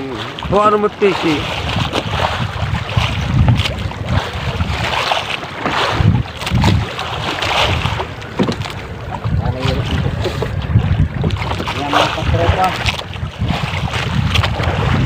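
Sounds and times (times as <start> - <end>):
water washing against wooden boat: 0.0 - 15.0
wind buffeting microphone: 0.0 - 15.0.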